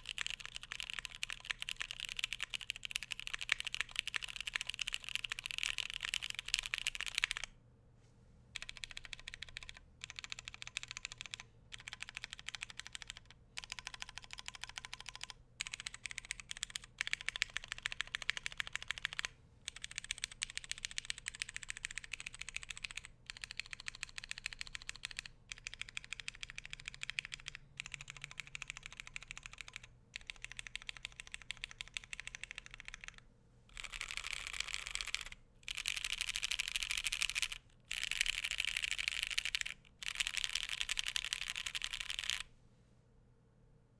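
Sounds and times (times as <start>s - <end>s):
mechanical keyboard typing: 0.0s - 7.5s, 8.6s - 42.5s.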